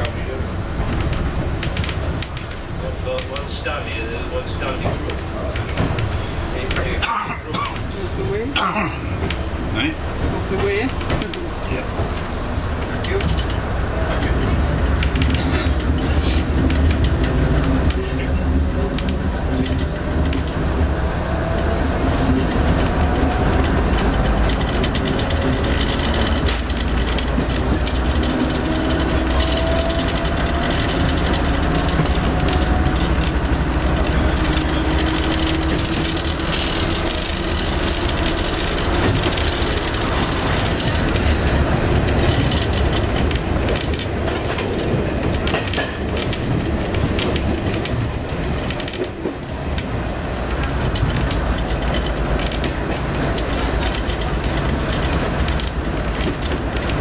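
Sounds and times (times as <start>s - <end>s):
clickety-clack of rail joints: 0.0s - 57.0s
train wheels rumbling on rail: 0.0s - 57.0s.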